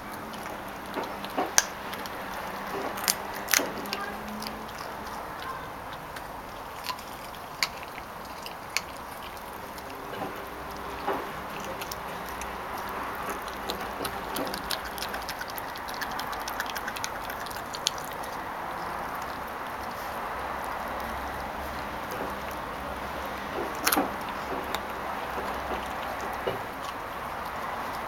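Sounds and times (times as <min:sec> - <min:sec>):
puppy teeth crunching bone: 0:00.0 - 0:28.0.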